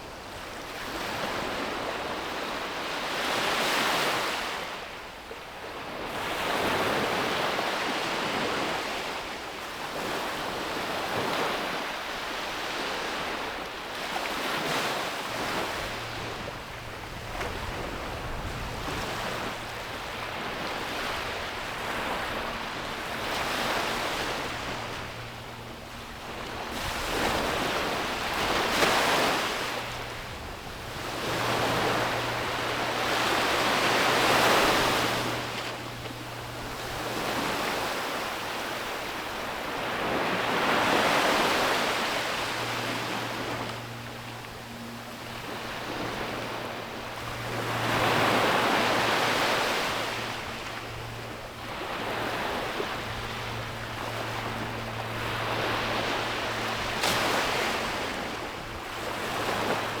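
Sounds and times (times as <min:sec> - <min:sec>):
ocean waves breaking on beach: 0:00.0 - 1:00.0.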